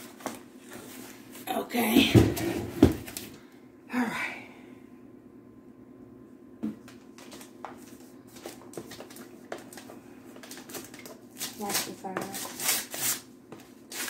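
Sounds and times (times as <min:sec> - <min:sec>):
faint low room hum: 0:00.0 - 0:14.0.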